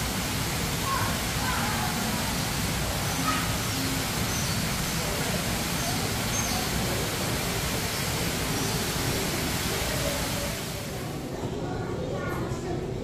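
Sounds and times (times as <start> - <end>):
crowd background noise: 0.0 - 13.0
distant indistinct voices: 0.0 - 13.0.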